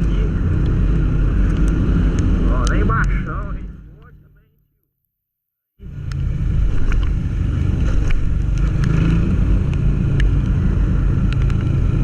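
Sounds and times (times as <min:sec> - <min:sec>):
wind rumbling on microphone: 0:00.0 - 0:04.1, 0:05.8 - 0:12.0.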